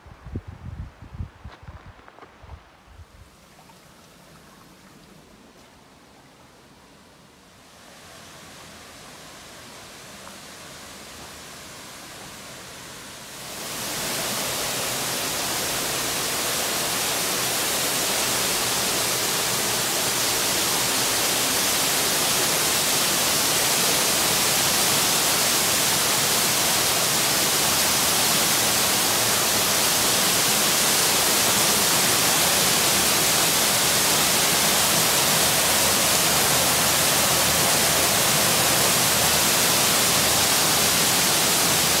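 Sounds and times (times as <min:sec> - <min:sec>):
waterfall rushing: 0:07.6 - 0:42.0.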